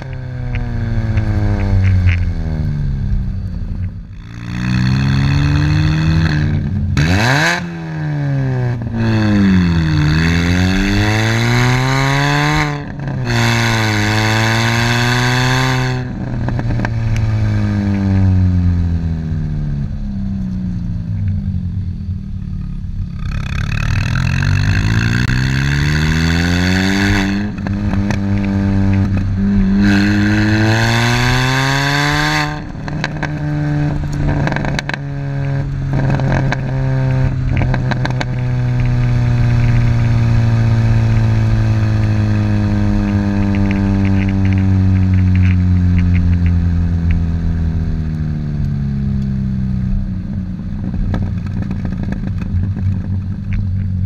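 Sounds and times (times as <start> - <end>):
loud car exhaust revving: 0.0 - 20.0, 22.4 - 53.5.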